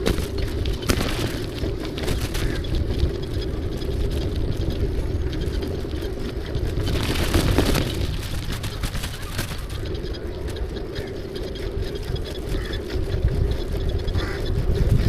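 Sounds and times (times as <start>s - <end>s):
motorbike engine running: 0.0s - 15.0s
wind noise on microphone: 0.0s - 15.0s.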